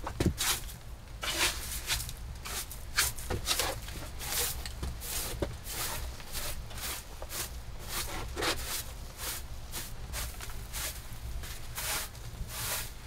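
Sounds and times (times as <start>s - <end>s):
broom sweeping wooden floor: 0.3s - 13.0s.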